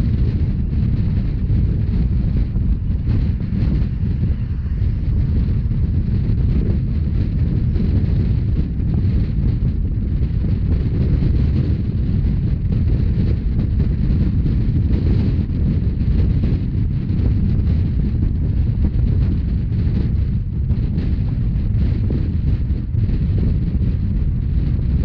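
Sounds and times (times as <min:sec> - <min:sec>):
train rumbling along track: 0:00.0 - 0:25.0
wind buffeting microphone: 0:00.0 - 0:25.0.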